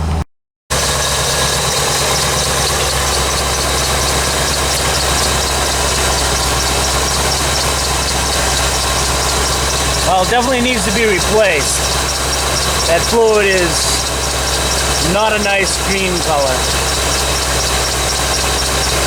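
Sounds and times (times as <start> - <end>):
car engine idling: 0.0 - 19.0
light regular engine ticking: 0.0 - 19.0.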